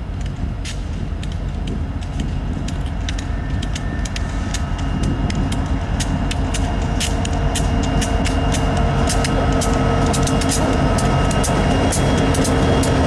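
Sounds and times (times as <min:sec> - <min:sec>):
diesel locomotives rumbling: 0:00.0 - 0:13.0
sharp clicks: 0:00.2 - 0:13.0
faint high whine: 0:01.0 - 0:13.0.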